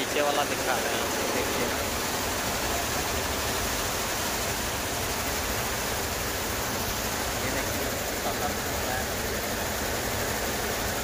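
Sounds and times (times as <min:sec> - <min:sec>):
embroidery machines running: 0:00.0 - 0:11.0.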